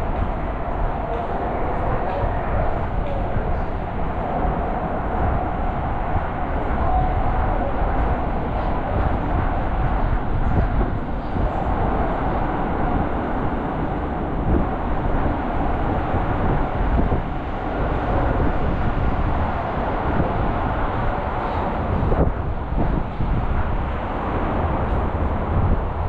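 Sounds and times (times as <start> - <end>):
city background rumble: 0.0 - 26.0.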